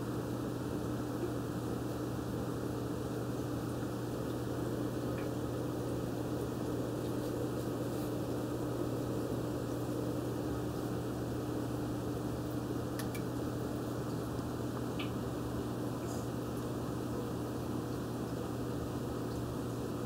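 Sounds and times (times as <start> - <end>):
aquarium filter motor hum: 0.0 - 20.0.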